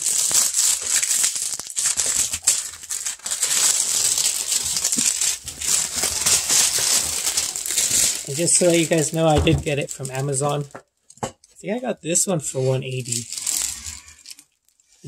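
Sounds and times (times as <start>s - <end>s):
plastic shrink wrap crinkling: 0.0s - 11.6s, 12.2s - 15.0s.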